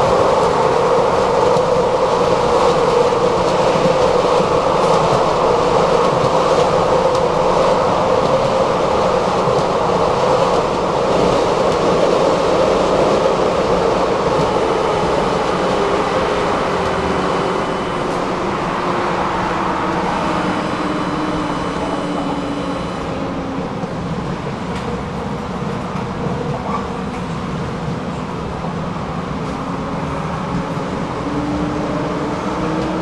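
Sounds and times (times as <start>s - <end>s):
tram rumbling on rails: 0.0s - 33.0s.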